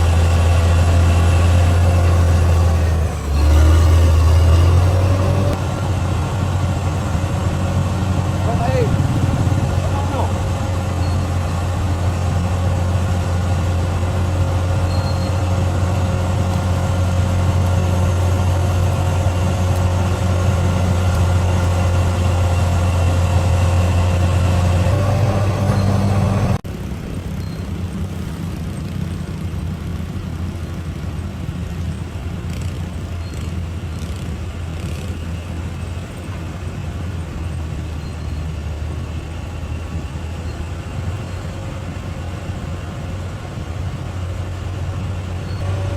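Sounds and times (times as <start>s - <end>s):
heavy diesel engine running: 0.0s - 45.9s
rough engine rumble: 0.0s - 45.9s.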